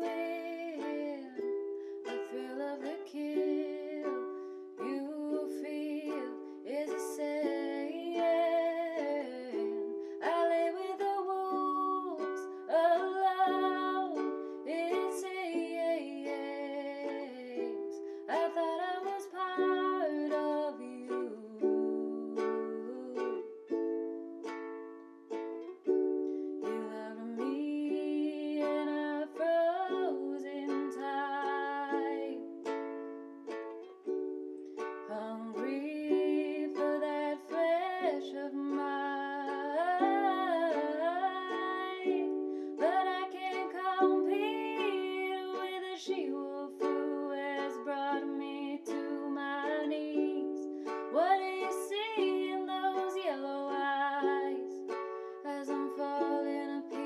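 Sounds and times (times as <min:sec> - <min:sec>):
woman singing: 0:00.0 - 0:24.2, 0:26.6 - 0:33.1, 0:34.9 - 0:57.0
ukulele strumming chords: 0:00.0 - 0:57.0.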